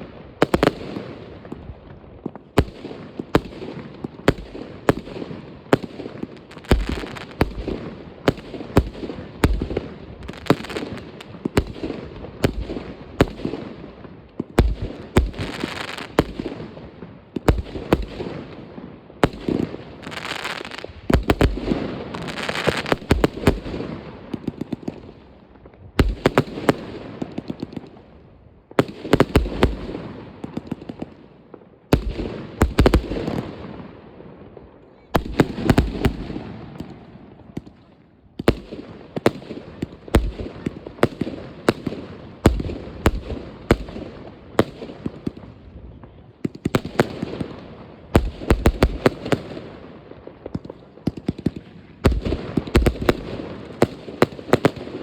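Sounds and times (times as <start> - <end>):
fireworks bangs: 0.0 - 28.1, 31.9 - 55.0
echoing fireworks rumble and crackle: 0.0 - 55.0.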